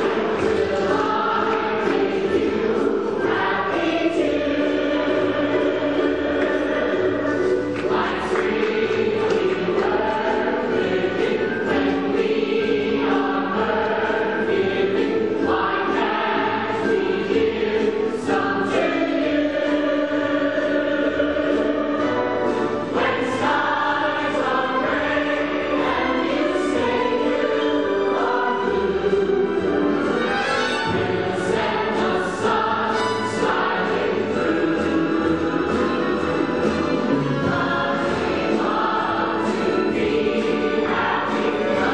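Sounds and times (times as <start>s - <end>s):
cast singing in chorus: 0.0s - 41.9s
theatre orchestra: 0.0s - 41.9s.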